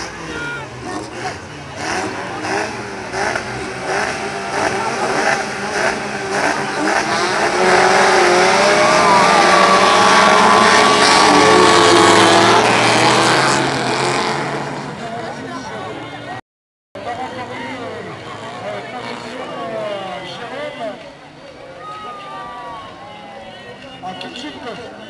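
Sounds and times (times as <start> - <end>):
racing car engines revving: 0.0 - 16.4, 17.0 - 21.5.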